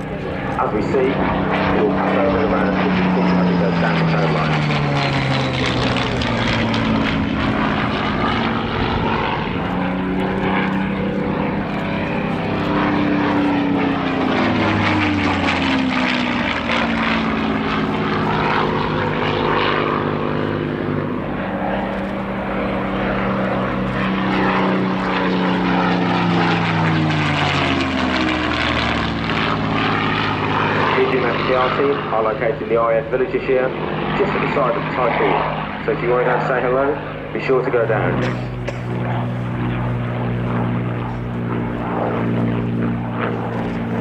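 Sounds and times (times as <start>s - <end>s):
propeller plane engine passing: 0.0s - 44.0s.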